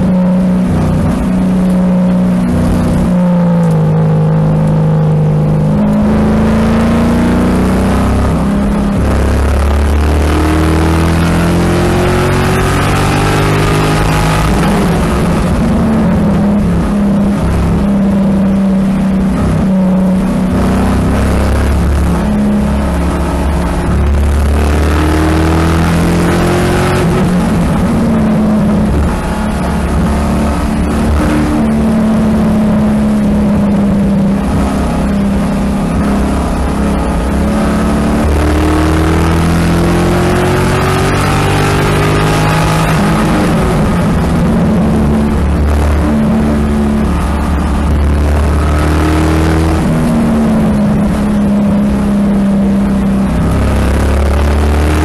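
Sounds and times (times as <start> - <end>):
car engine accelerating: 0.0 - 55.0
wind noise: 0.0 - 55.0.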